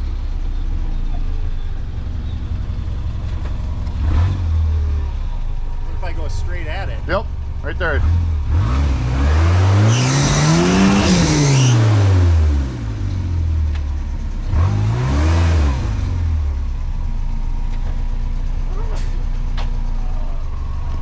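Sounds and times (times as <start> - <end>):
engine revving: 3.8 - 21.0.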